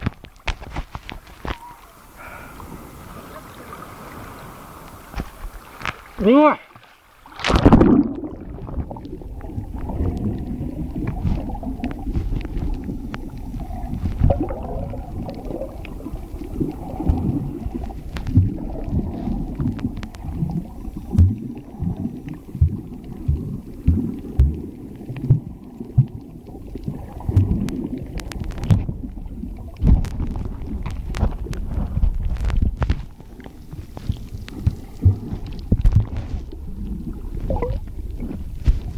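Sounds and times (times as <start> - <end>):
knocks underwater: 7.3 - 38.9.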